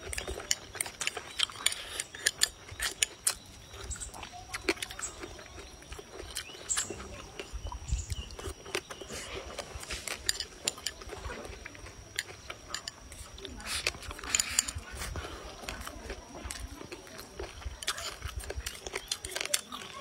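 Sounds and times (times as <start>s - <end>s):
chewing with lip smacks: 0.0s - 20.0s.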